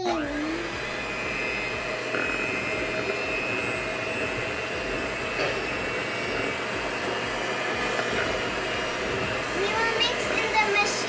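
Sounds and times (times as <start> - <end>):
electric hand mixer whisking batter: 0.0 - 11.0.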